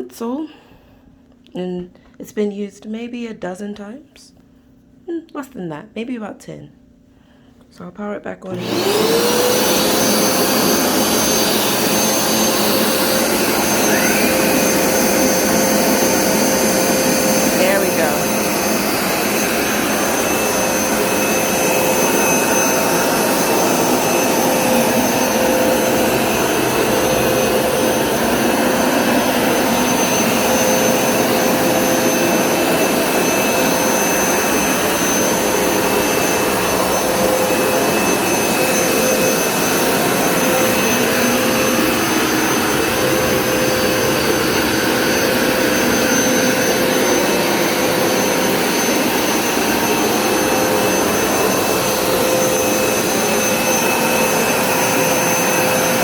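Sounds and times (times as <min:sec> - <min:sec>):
carpet cleaner motor roar: 0:08.5 - 0:56.0.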